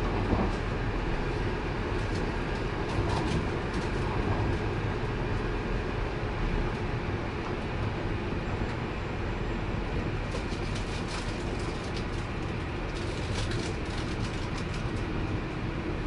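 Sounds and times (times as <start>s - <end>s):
train running on rails: 0.0s - 16.0s.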